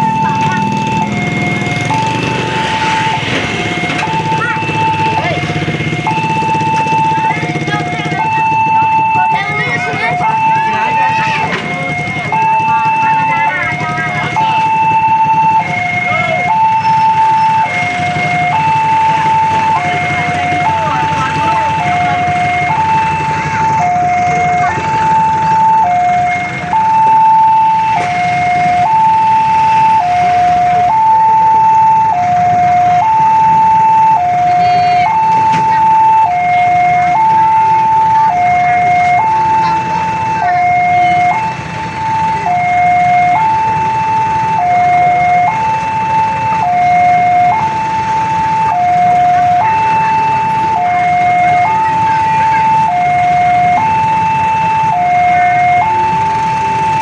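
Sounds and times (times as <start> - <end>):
traffic rumble: 0.0 - 57.0
two-tone crossing alarm: 0.0 - 57.0.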